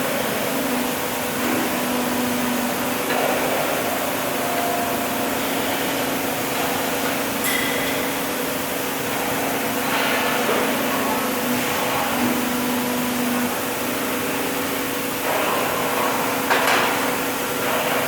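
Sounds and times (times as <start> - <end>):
hydraulic press humming: 0.0 - 18.0.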